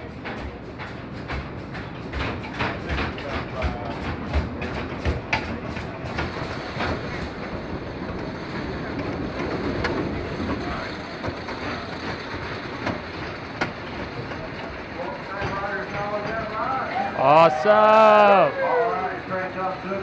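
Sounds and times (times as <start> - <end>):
roller coaster rolling on track: 0.0 - 20.0.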